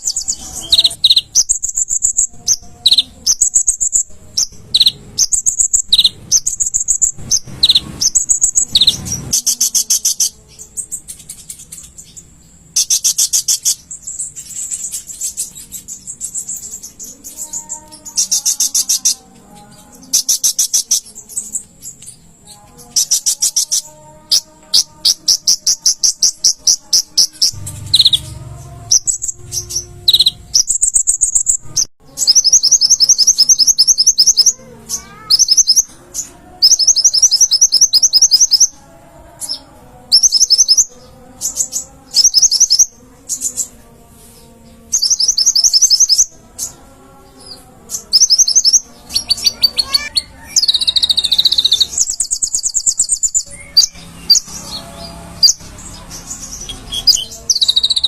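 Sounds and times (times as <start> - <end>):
sunbird chirps and buzzy trills: 0.0 - 58.0.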